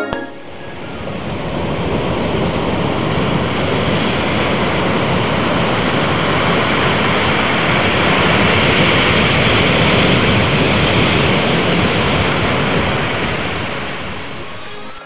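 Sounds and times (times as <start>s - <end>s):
waves breaking on shore: 0.4s - 15.0s
wind on microphone: 0.5s - 14.7s.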